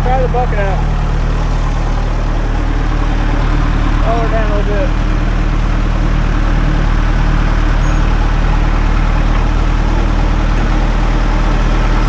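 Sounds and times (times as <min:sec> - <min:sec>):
diesel engine fast idle: 0:00.0 - 0:12.0.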